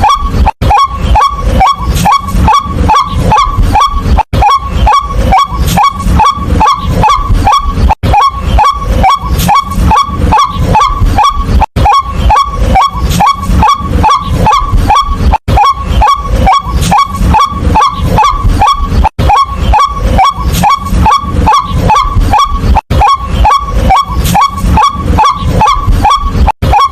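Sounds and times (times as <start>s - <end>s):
waterhen calling kwak notes: 0.0s - 26.9s.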